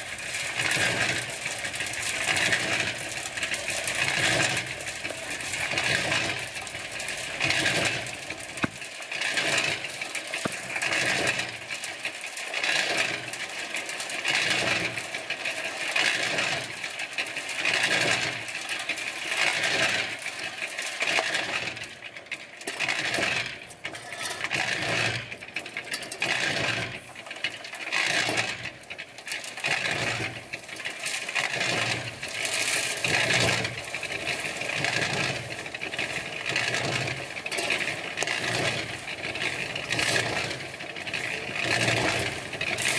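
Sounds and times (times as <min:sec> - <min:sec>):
cement mixer tumbling gravel: 0:00.0 - 0:42.9.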